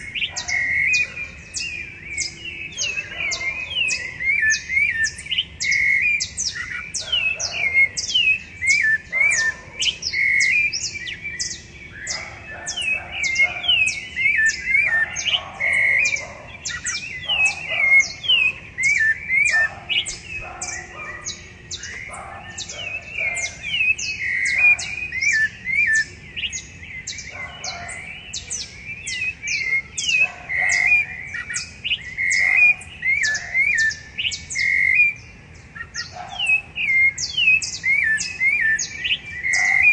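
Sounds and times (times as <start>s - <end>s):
thrushes singing fluty phrases: 0.0s - 39.9s.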